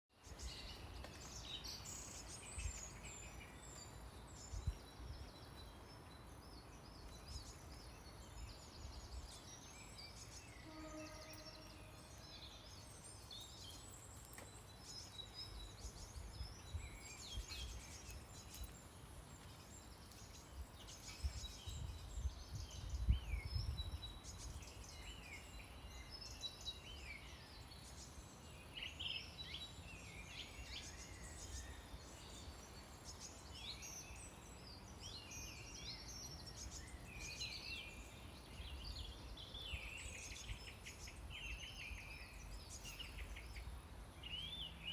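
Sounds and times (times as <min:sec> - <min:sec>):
small birds chirping: 0:00.1 - 0:44.9.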